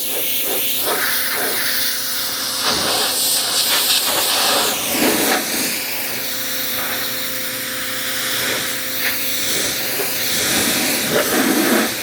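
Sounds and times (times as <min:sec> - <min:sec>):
pressure washer hum: 0:00.0 - 0:12.0
pressure washer water jet hissing: 0:00.0 - 0:12.0.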